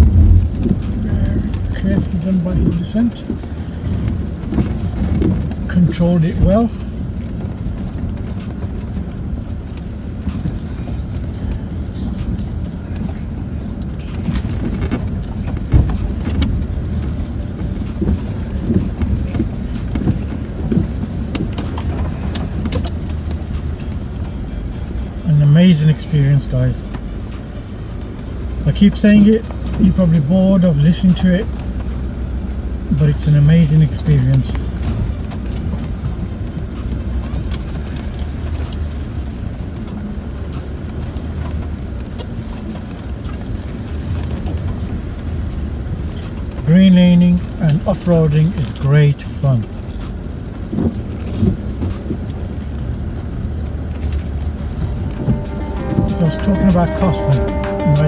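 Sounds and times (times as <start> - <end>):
body and suspension rattles: 0.0 - 58.0
vehicle engine and tyres rumbling: 0.0 - 58.0.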